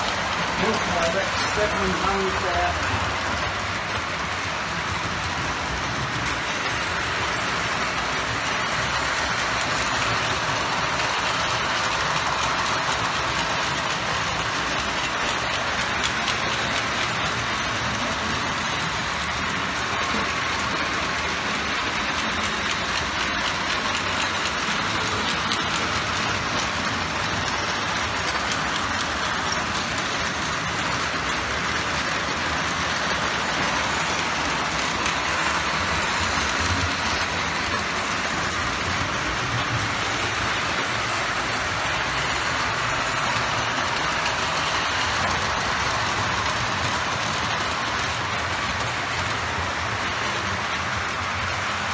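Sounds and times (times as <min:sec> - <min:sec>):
model train rattling on track: 0:00.0 - 0:51.9.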